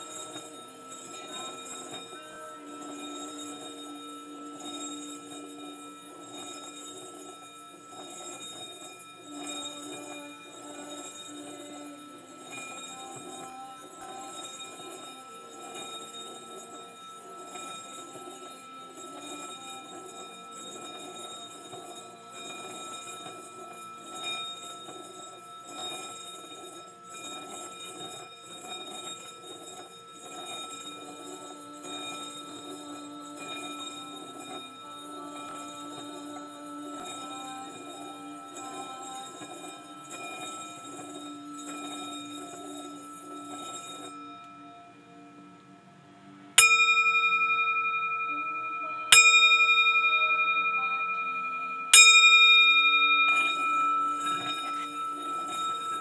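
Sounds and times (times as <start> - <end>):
singing bowl ringing: 0.0 - 56.0.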